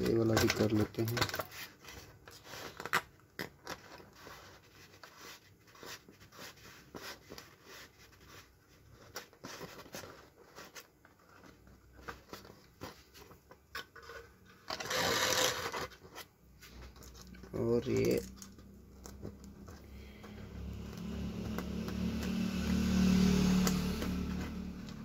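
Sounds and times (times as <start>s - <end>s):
rustling scrape: 0.0s - 21.9s.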